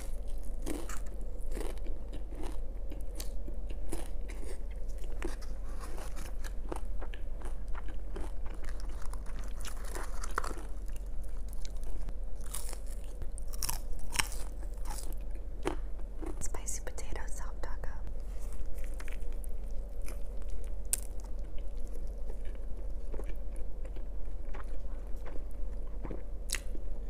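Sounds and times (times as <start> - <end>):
chewing crunchy taco shell: 0.0 - 16.5, 18.2 - 27.0.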